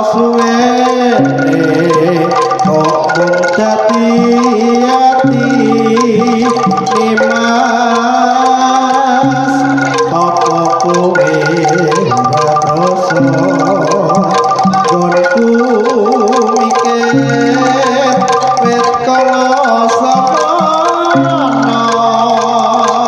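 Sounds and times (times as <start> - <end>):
gamelan music over loudspeakers: 0.0 - 23.0
hand drums: 0.0 - 23.0
metallophone notes: 0.0 - 23.0
wavering melody line: 0.0 - 23.0.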